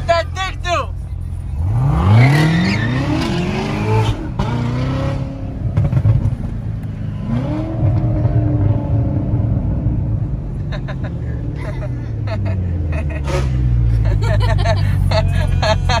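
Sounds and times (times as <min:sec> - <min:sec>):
car engine accelerating hard: 0:01.5 - 0:16.0.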